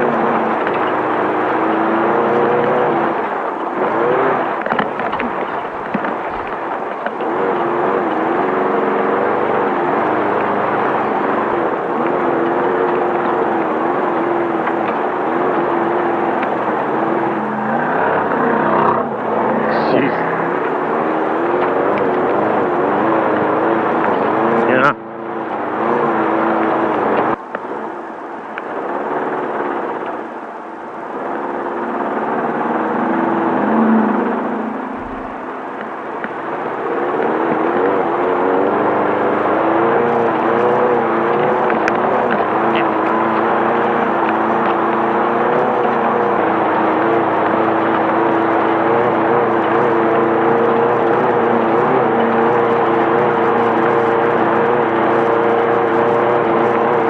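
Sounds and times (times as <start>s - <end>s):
dirt wind and chassis noise: 0.0s - 57.0s
race car engine running hard: 0.0s - 57.0s.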